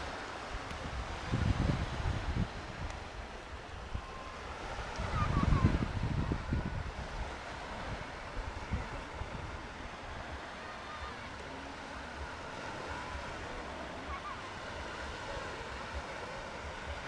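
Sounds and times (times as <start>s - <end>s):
sea waves washing: 0.0s - 17.0s
wind rumbling on microphone: 0.0s - 17.0s.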